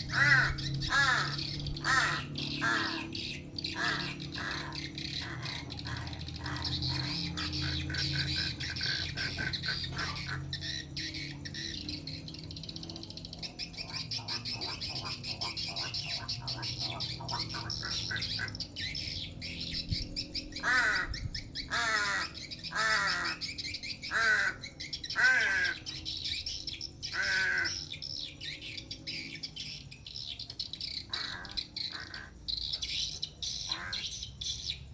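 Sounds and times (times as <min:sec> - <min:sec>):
crow harsh calls: 0:00.0 - 0:12.3, 0:13.4 - 0:28.5, 0:30.8 - 0:34.6
small birds chirping: 0:00.0 - 0:34.9.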